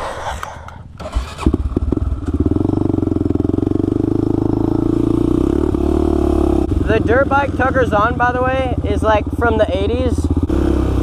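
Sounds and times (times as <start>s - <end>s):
dirt bike engine puttering: 1.0s - 11.0s.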